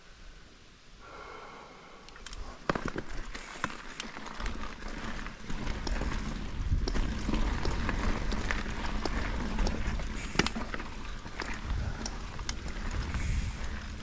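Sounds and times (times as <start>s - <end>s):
low rumble of riding: 1.1s - 14.0s
bike rattling over dirt trail: 2.3s - 14.0s.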